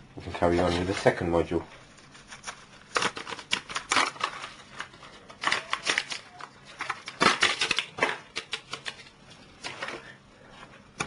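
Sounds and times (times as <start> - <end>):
clicks and plastic rustles: 0.2 - 11.0.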